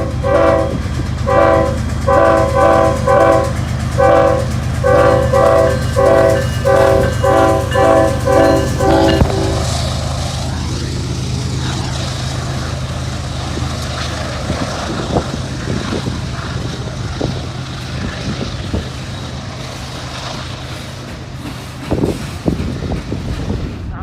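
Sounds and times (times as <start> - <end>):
locomotive engine drone: 0.0 - 24.0.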